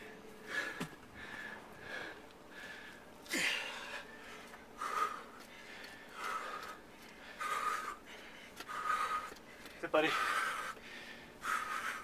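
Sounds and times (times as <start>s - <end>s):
man breathing hard: 0.0s - 12.0s.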